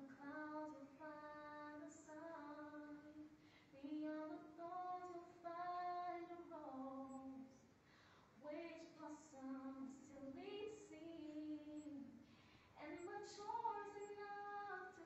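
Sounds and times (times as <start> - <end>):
young women singing unaccompanied: 0.0 - 7.6, 8.4 - 15.0.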